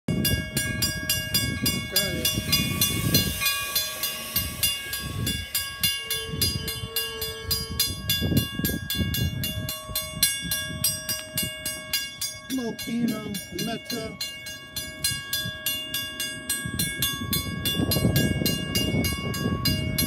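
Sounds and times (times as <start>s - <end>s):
steady tone: 0.1s - 19.8s
crossing bell dinging: 0.1s - 20.0s
train rumbling: 0.1s - 20.0s.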